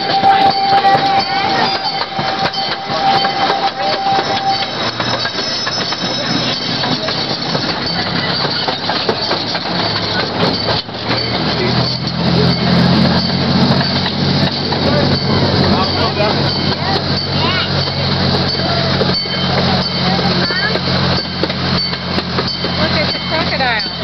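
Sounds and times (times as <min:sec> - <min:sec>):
high squeal: 0:00.0 - 0:24.0
train cars rattling on track: 0:00.0 - 0:24.0.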